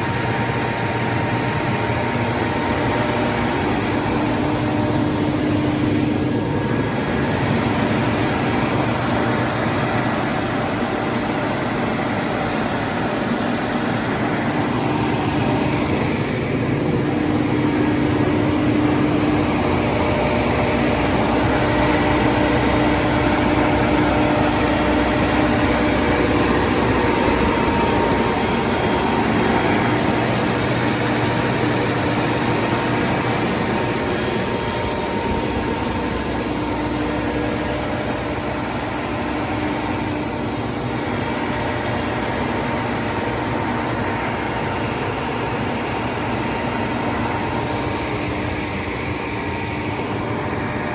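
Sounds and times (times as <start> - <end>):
generator engine drone: 0.0 - 50.9
steady whine: 0.0 - 50.9.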